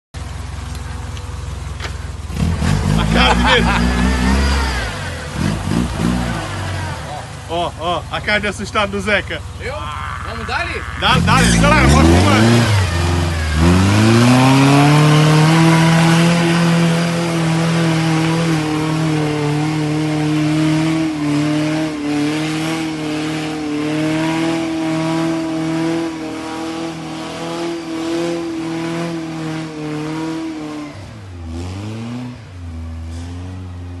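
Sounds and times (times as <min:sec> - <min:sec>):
engine revving under load: 0:01.8 - 0:34.0.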